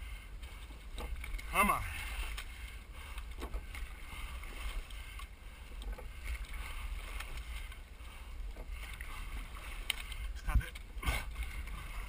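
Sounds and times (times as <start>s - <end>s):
water rushing along a boat hull: 0.0s - 12.0s.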